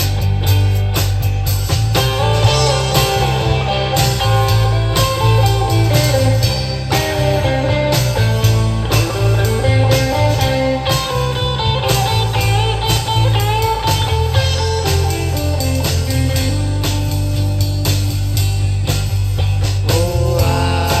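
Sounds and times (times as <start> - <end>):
bass and drums: 0.0 - 21.0
guitar solo with bending notes: 1.9 - 18.8.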